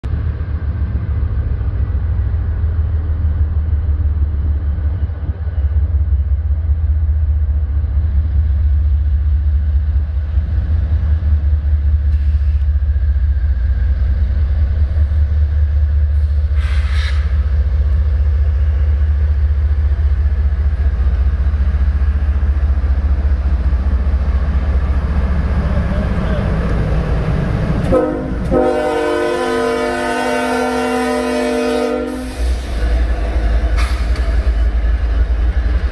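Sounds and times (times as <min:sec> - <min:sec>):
locomotive diesel engine rumbling: 0:00.0 - 0:35.9.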